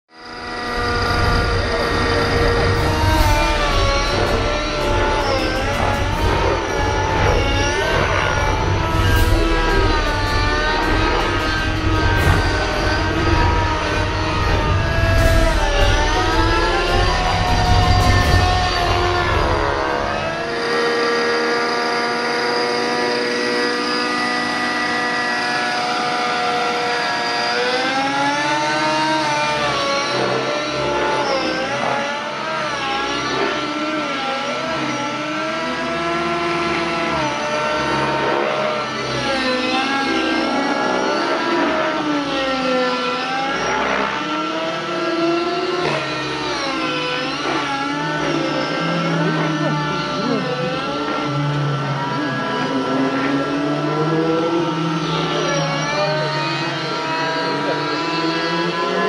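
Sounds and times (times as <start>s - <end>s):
rc helicopter engine high revs: 0.1s - 59.0s.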